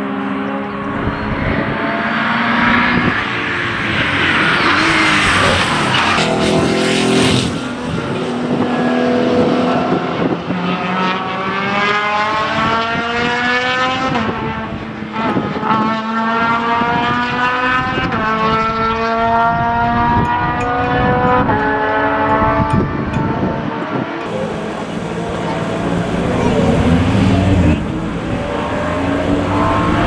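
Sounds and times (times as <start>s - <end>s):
car rushing past: 0.0s - 23.0s, 23.6s - 30.0s
racing car engines at full throttle: 0.0s - 30.0s.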